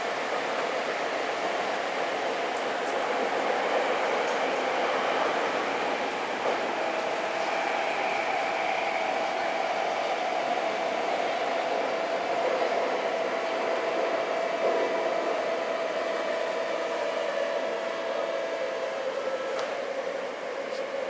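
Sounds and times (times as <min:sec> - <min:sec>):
subway car running noise: 0:00.0 - 0:21.0.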